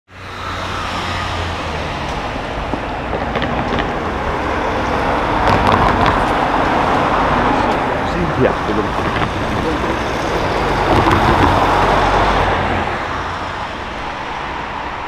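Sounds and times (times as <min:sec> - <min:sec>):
car driving past: 0:00.1 - 0:14.8
road traffic noise: 0:00.1 - 0:15.0.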